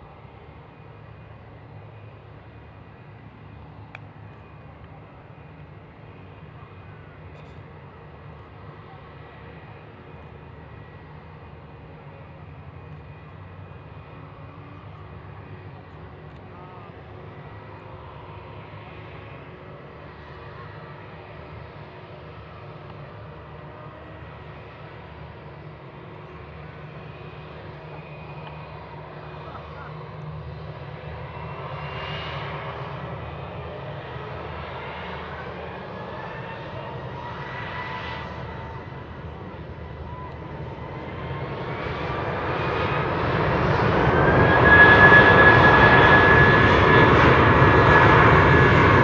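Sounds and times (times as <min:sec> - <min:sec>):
jet engines idling: 0:00.0 - 0:49.0.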